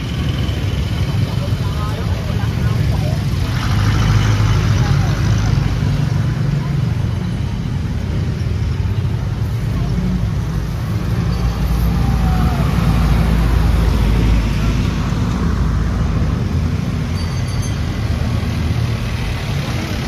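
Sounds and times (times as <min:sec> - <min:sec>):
faint voices of passers-by: 0:00.0 - 0:20.0
vehicles passing close by: 0:00.0 - 0:20.0.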